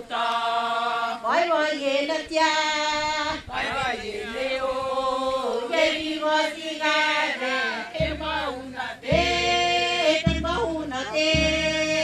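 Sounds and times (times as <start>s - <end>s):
women singing a chant: 0.0s - 12.0s.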